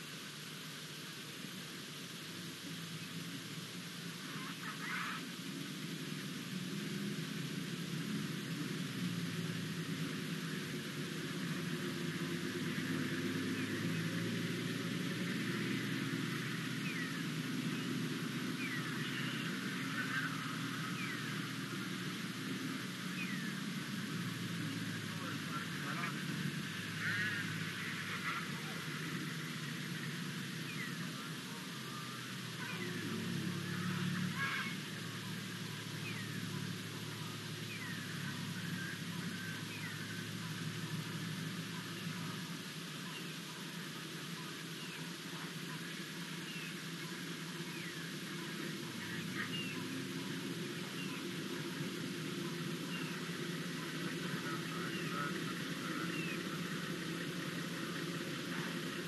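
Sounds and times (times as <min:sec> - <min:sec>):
low hum: 0:00.0 - 0:59.0
outdoor hiss: 0:00.0 - 0:59.0.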